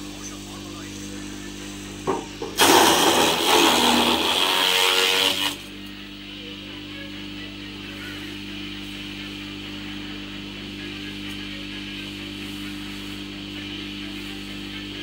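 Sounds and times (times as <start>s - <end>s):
chaff cutter humming: 0.0s - 15.0s.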